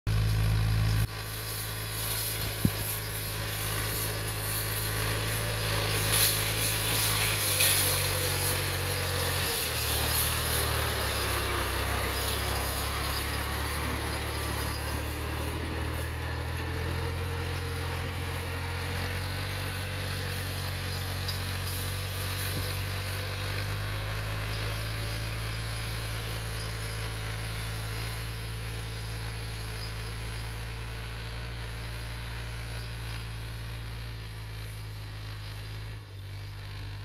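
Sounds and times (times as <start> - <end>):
tractor engine running: 0.1 - 37.0.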